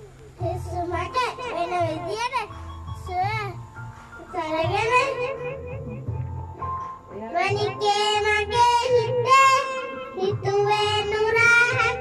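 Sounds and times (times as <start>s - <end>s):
boy singing into a microphone: 0.4s - 3.6s, 4.2s - 6.0s, 7.1s - 12.0s.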